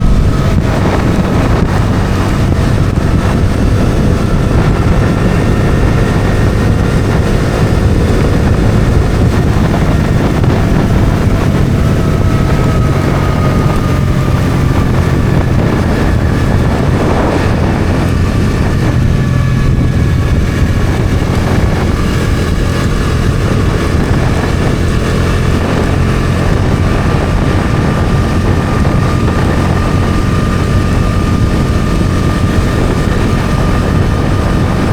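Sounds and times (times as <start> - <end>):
motorcycle engine cruising: 0.0 - 34.9
wind noise on microphone: 0.0 - 34.9.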